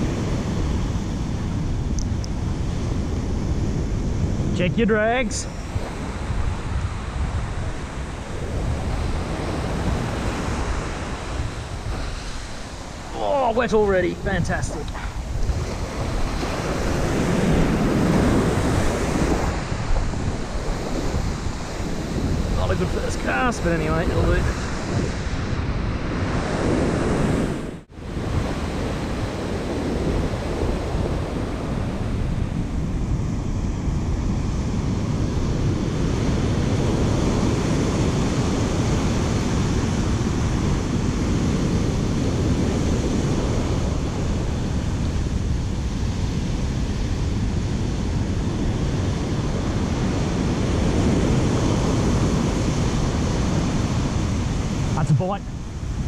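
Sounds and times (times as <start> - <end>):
surf breaking on beach: 0.0 - 56.0
wind rumbling on microphone: 0.0 - 56.0.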